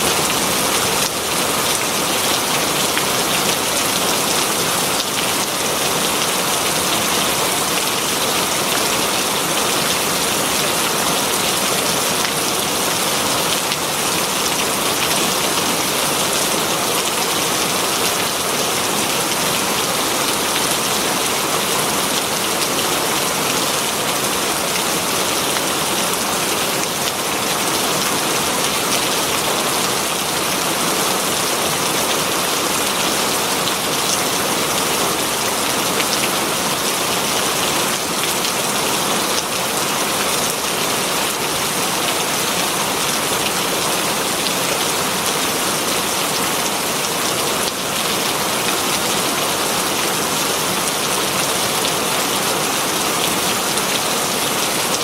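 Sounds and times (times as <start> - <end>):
heavy rain on foliage: 0.0 - 55.0.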